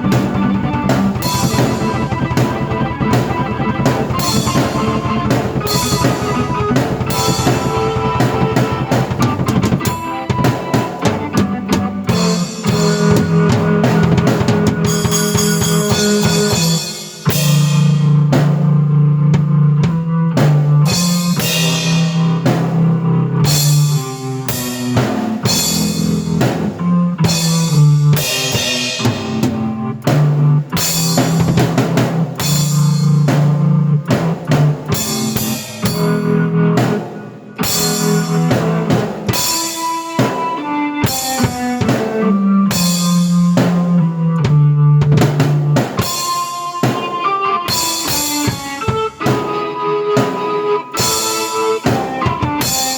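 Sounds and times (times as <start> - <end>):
drum kit beat: 0.0 - 52.9
keyboard chords: 0.0 - 52.9.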